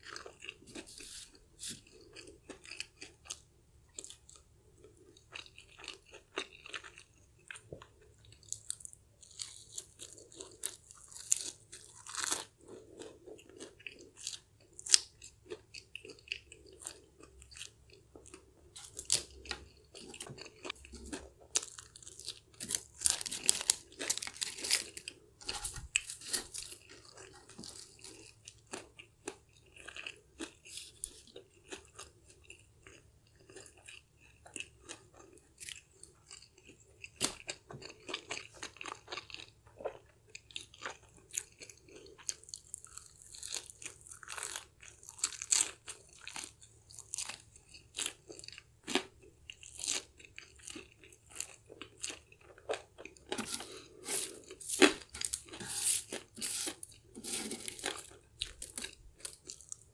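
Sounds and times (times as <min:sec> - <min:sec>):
crunching fried chicken: 0:00.0 - 0:59.9.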